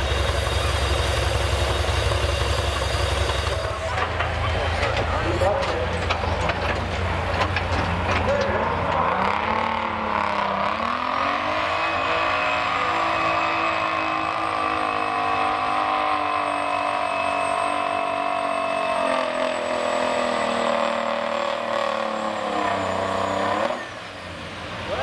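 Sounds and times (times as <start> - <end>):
diesel truck engine under load: 0.0 - 24.9.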